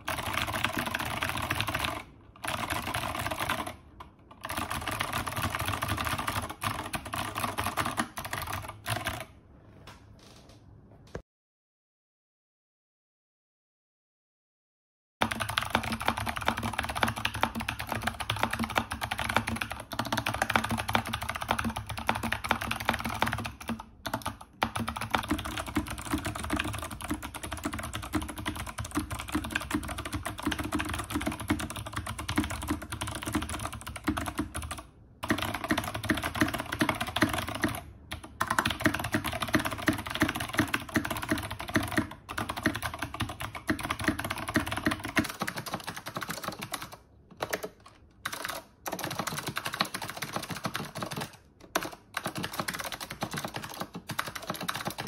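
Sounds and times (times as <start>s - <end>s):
fast typing on mechanical keyboard: 0.0s - 9.4s, 15.2s - 55.0s.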